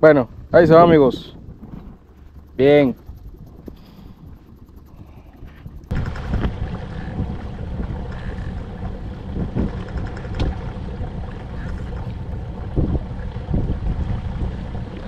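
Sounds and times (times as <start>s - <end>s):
boat engine hum: 0.0s - 15.0s
wind on microphone: 0.2s - 15.0s.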